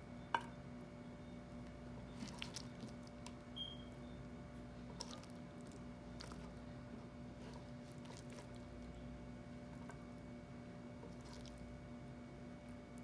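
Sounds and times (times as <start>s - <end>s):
soft squishing of food: 0.8s - 13.0s.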